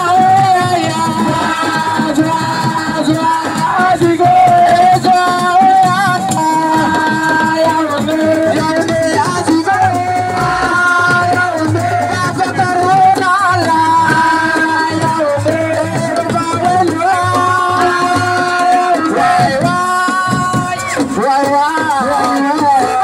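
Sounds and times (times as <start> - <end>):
hand drums and percussion: 0.0 - 23.0.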